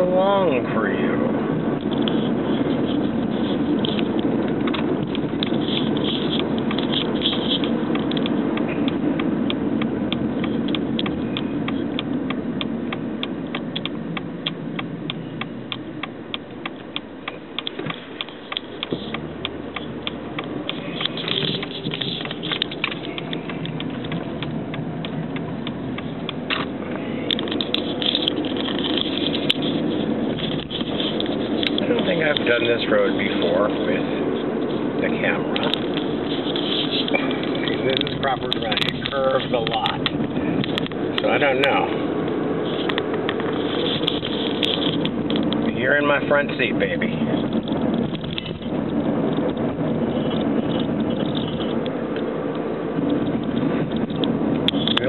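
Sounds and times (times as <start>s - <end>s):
car engine and tyre noise: 0.0s - 55.0s
rapid ticking rattle: 1.6s - 55.0s.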